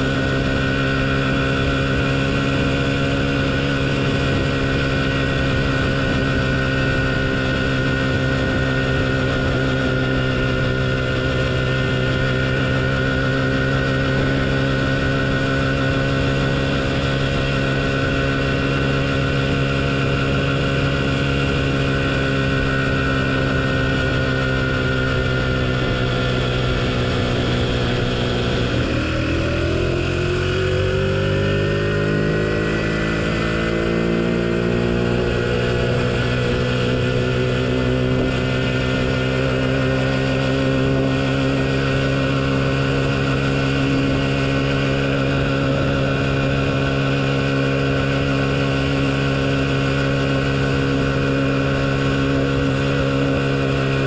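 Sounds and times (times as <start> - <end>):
small motorbike engine running: 0.0 - 54.0.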